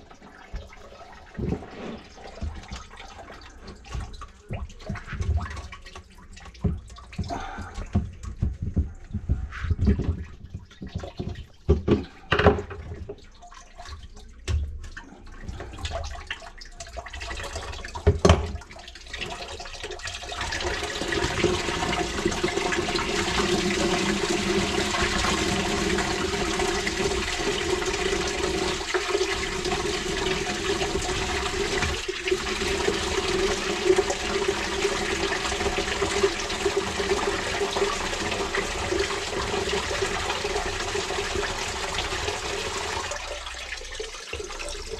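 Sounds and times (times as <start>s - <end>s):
water pouring into plastic bucket: 0.0s - 44.9s.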